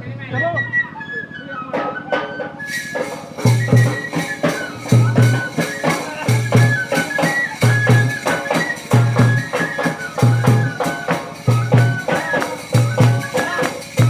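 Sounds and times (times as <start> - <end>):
high stepping melody: 1.6 - 14.0
deep drum strokes: 1.8 - 14.0
quick rhythmic percussion: 1.8 - 14.0.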